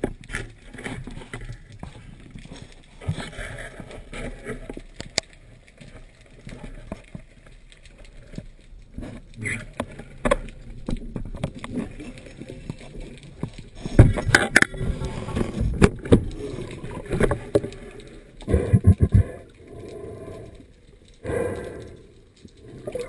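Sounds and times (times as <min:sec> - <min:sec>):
water moving around camera housing: 0:00.0 - 0:23.0.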